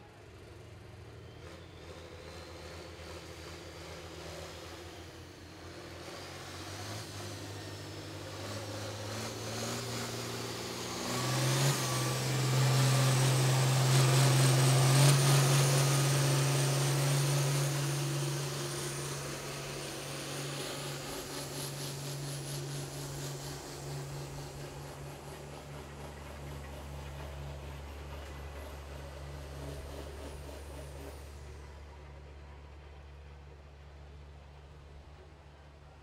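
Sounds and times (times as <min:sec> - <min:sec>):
pulling vehicle engine at full throttle: 0:00.0 - 0:33.4.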